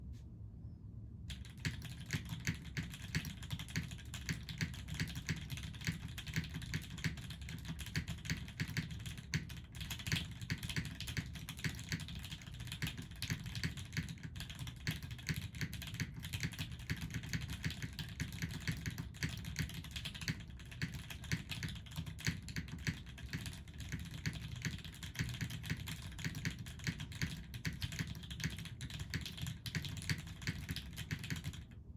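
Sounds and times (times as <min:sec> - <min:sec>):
fast typing on mechanical keyboard: 0:01.3 - 0:31.8.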